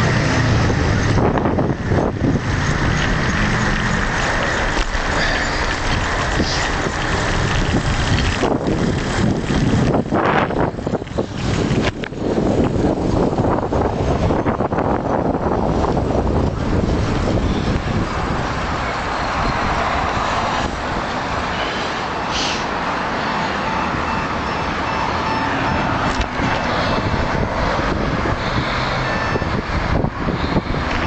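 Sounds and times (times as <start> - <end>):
street traffic passing: 0.0 - 31.0.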